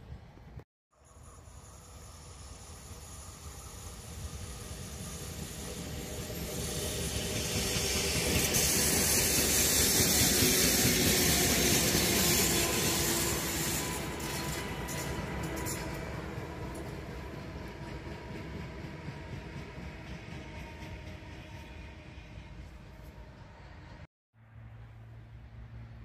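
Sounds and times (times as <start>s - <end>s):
wheels hissing on rails: 1.0s - 24.1s
diesel locomotive engine rumble: 1.2s - 26.0s.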